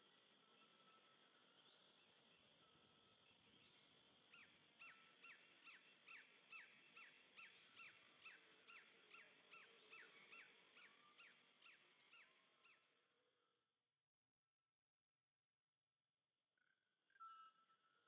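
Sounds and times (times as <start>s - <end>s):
quiet natural ambience: 0.0s - 18.0s.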